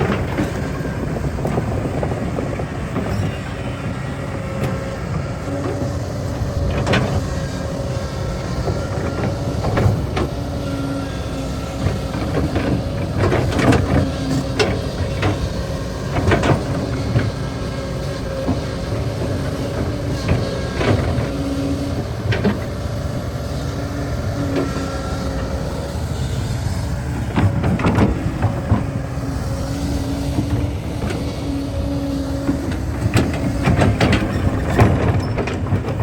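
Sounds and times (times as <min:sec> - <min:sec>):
excavator diesel engine whining: 0:00.0 - 0:36.0
excavator knocks and clanks: 0:00.0 - 0:36.0.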